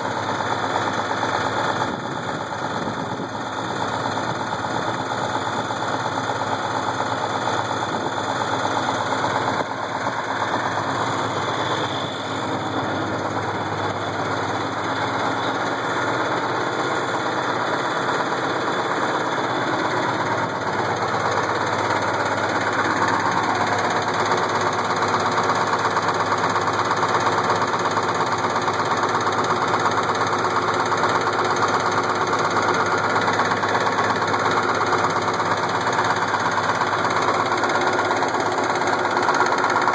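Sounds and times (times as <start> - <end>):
diesel engine running with a knock: 0.0 - 39.9.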